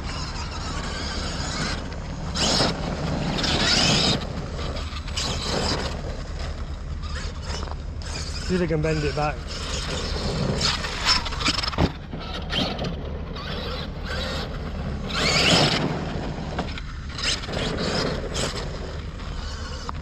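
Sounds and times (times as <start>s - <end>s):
clicks and scrapes of car parts: 0.1s - 20.0s.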